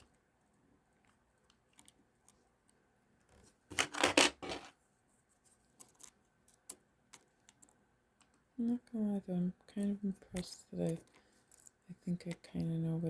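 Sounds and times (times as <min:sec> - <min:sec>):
clicking and scraping handling noise: 0:00.9 - 0:08.4, 0:09.8 - 0:12.8.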